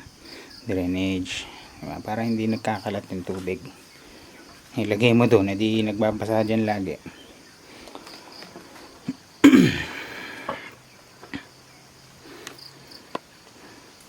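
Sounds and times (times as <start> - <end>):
faint insect chirping: 0.0 - 14.0.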